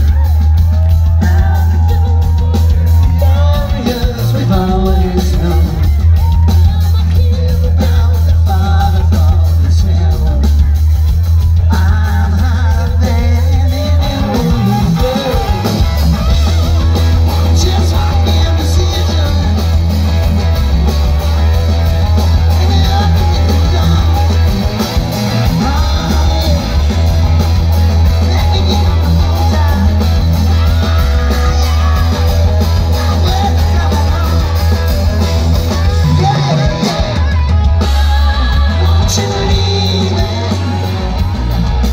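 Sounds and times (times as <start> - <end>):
booming deep bass: 0.0 - 41.9
live rock band playing: 0.0 - 41.9
person singing: 0.0 - 41.9.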